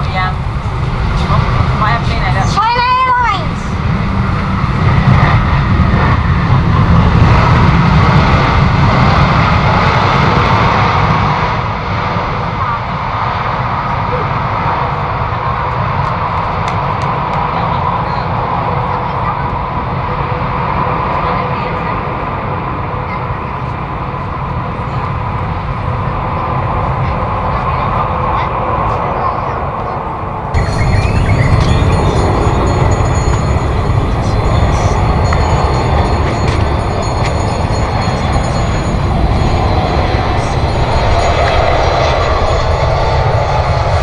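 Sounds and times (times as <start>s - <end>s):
jet engines running: 0.0s - 44.0s.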